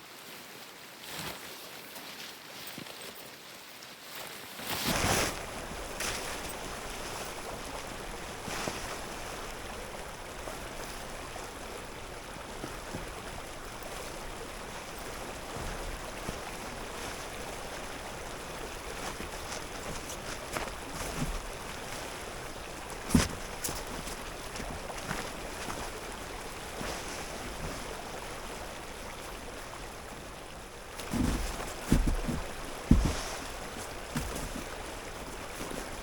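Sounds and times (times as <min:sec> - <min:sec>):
stream running: 0:03.2 - 0:36.0.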